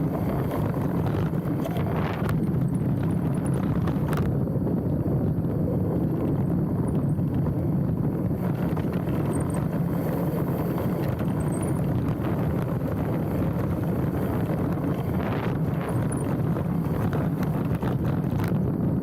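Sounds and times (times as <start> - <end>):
bike tyre rumble on dirt: 0.0 - 19.0
wind buffeting microphone: 0.0 - 19.0.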